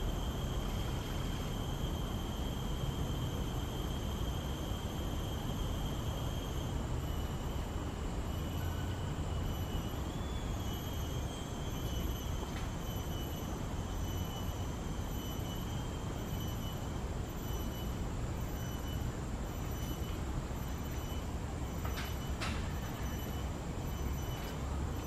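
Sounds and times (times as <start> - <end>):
faint steady high tones: 0.0 - 25.0.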